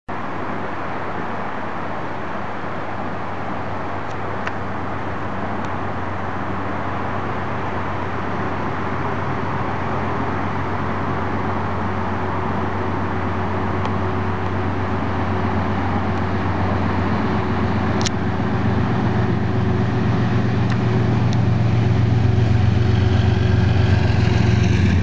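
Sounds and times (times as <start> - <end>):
diesel locomotive approaching: 0.1 - 25.0
distant road traffic rumble: 0.1 - 25.0.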